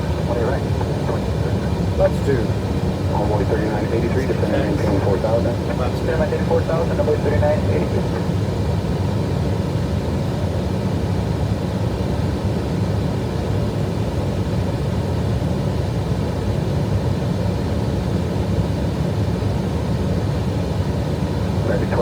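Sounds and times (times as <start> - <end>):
aircraft engine noise: 0.0 - 22.0.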